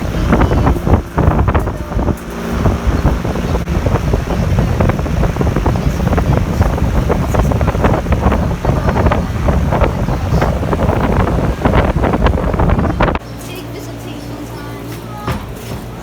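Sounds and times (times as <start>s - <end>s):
wind buffeting microphone: 0.0s - 13.3s.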